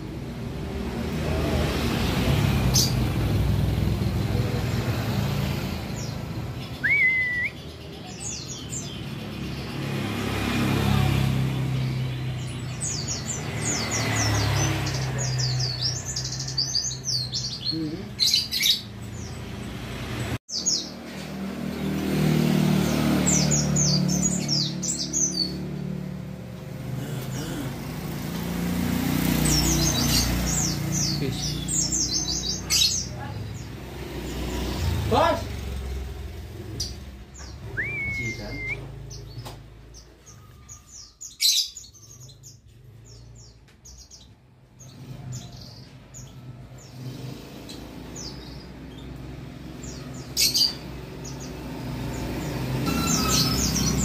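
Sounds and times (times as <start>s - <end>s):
birds singing high chirps: 0.0s - 54.0s
low traffic rumble: 0.0s - 54.0s.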